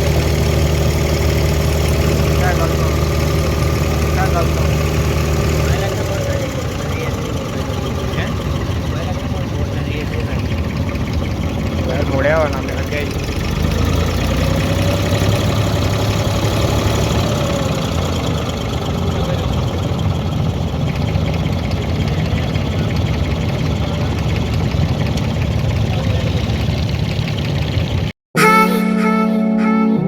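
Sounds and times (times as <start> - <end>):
boat engine droning: 0.0 - 29.6.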